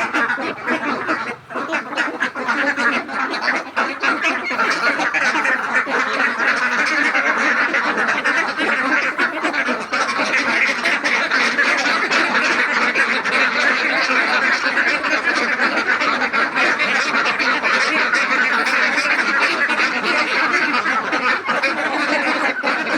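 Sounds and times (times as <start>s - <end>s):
flock of ducks quacking: 0.0s - 22.9s.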